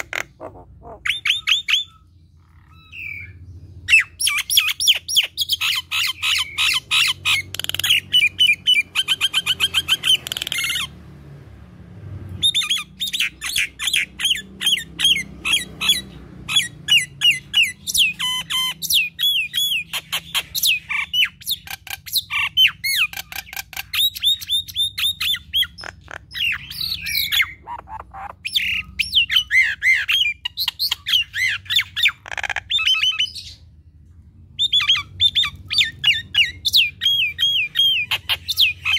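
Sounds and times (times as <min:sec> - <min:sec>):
myna bird chattering: 0:00.0 - 0:10.9, 0:12.4 - 0:33.7, 0:34.6 - 0:38.9.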